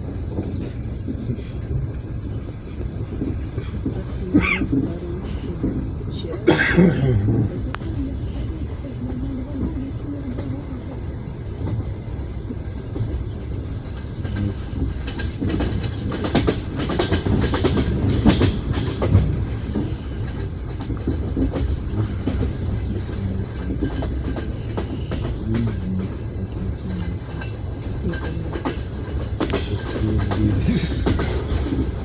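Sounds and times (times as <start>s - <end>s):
train low rumble: 0.0s - 32.0s
train wheels clacking over rail joints: 0.0s - 32.0s.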